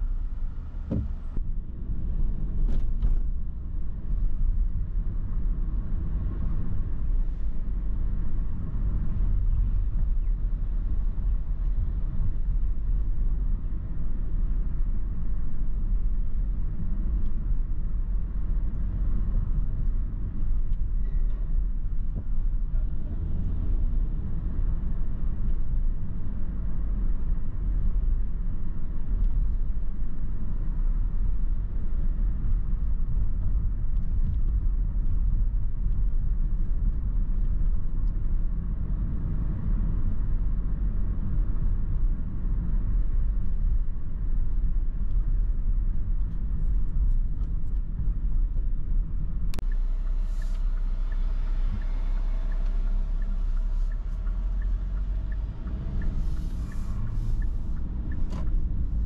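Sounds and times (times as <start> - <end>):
car driving rumble from inside: 0.0 - 59.0.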